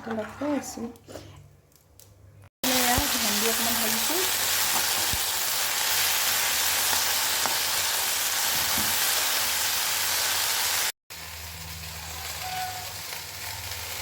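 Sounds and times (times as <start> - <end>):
okra sizzling in hot oil: 2.6 - 14.0.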